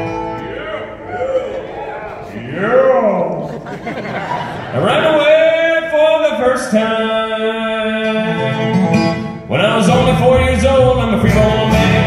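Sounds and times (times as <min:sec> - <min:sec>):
bluegrass band playing: 0:00.0 - 0:12.0.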